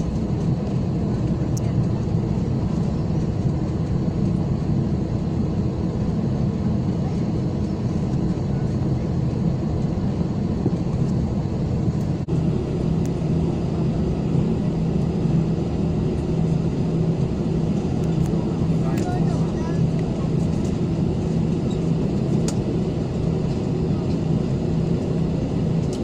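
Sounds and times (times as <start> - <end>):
jet engine cabin noise: 0.0 - 26.0.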